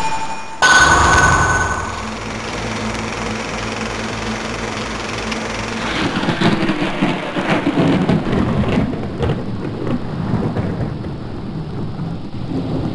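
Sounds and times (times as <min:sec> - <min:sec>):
low rumble: 0:00.6 - 0:11.9
dense rushing crackling noise: 0:00.6 - 0:12.9.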